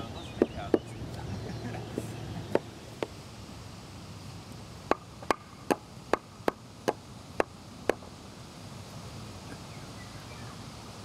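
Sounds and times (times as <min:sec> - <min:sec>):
steady outdoor background: 0:00.0 - 0:11.0.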